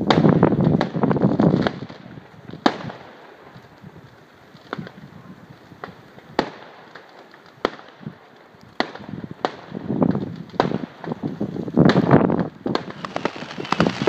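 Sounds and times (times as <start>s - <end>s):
crackling explosions: 0.0s - 14.0s
fireworks and firecrackers exploding: 0.0s - 14.0s.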